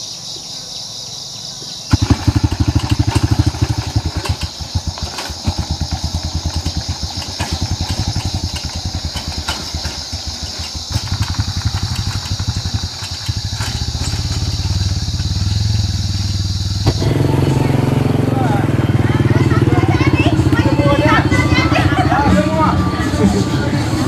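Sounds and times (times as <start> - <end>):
motorbike engine chugging: 1.6 - 24.0.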